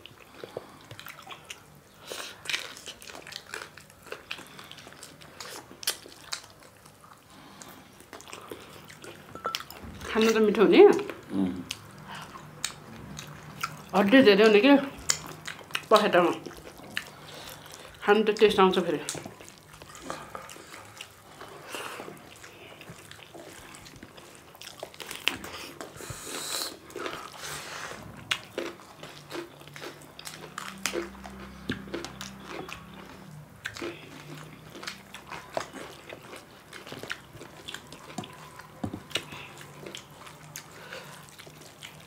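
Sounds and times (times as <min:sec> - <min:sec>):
chewing and mouth smacks: 0:00.0 - 0:42.0.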